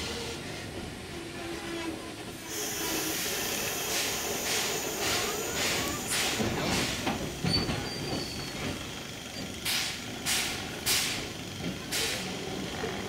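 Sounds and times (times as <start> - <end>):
train cars rumbling on rails: 0.0 - 13.0
steam locomotive chuffing: 2.5 - 13.0.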